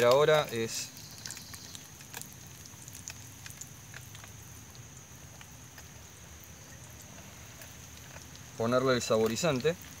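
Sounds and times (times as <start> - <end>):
fish frying in oil: 0.0 - 10.0
oil popping and crackling: 0.0 - 10.0.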